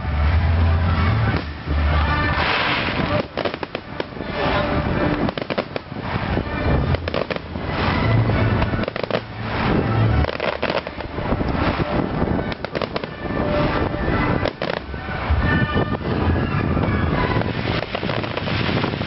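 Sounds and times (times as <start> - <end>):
fireworks cracking: 1.3 - 15.2, 17.1 - 19.0.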